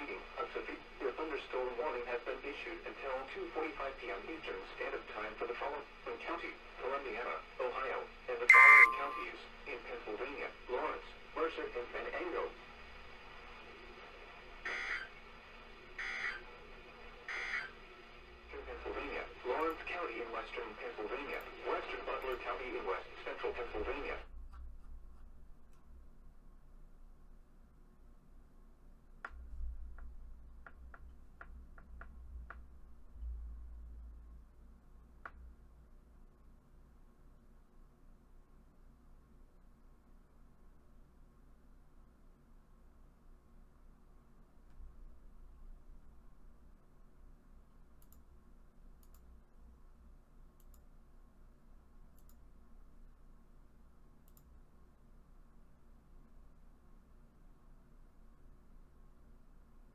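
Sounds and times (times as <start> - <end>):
faint low hum: 0.0 - 59.9.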